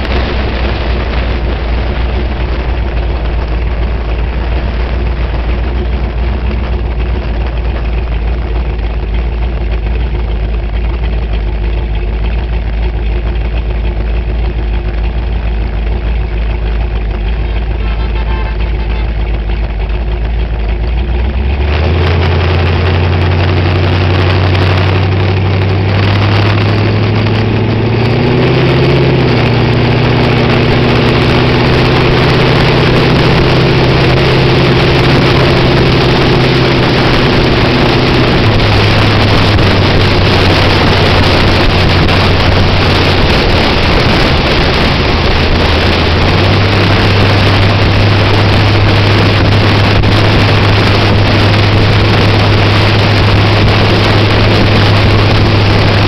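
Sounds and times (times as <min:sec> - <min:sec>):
wind buffeting camera: 0:00.0 - 0:17.8, 0:18.6 - 0:56.0
race car engine: 0:00.0 - 0:56.0.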